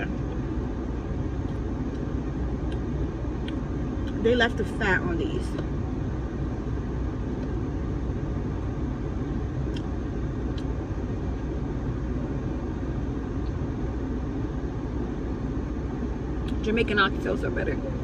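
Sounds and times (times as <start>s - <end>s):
car rumble: 0.0s - 18.0s.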